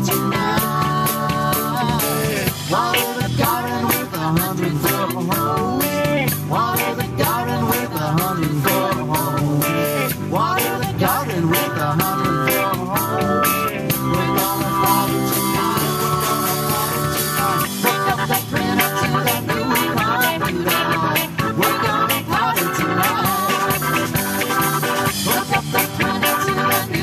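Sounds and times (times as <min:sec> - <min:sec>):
guitar: 0:00.0 - 0:27.0
live band playing rock: 0:00.0 - 0:27.0
steady drum beat: 0:00.0 - 0:27.0.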